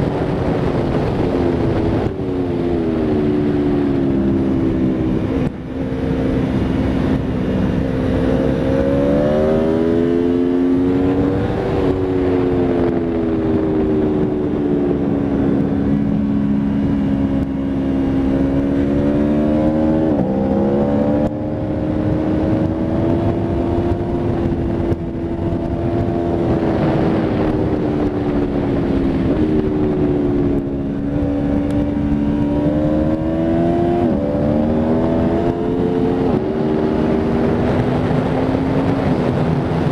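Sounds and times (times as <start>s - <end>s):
motorcycle engine running hard: 0.0s - 39.9s
wind noise: 0.0s - 39.9s.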